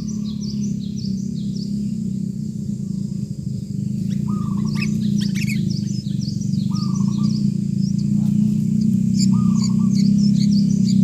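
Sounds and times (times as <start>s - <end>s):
low bird call: 0.0s - 11.0s
low hum: 0.0s - 11.0s
nestlings begging chirps: 0.0s - 11.0s.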